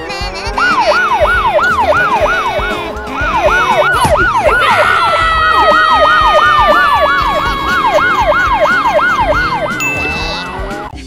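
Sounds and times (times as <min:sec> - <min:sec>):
police siren yelping: 0:00.4 - 0:11.0.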